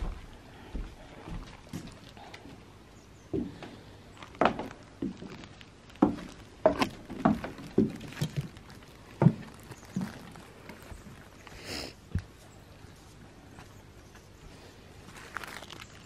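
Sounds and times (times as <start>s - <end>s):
footsteps on wooden deck: 0.0s - 15.6s.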